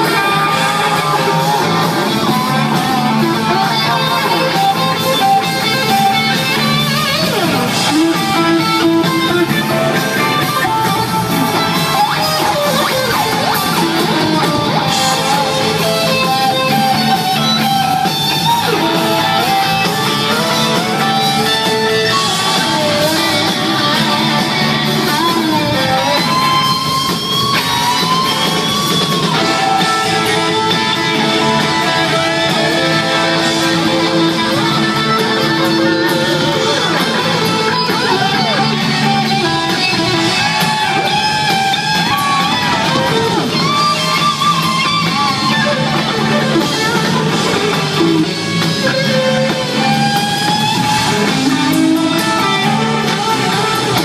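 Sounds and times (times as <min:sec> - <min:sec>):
electric guitar bent notes: 0:00.0 - 0:54.0
rock band playing live: 0:00.0 - 0:54.0.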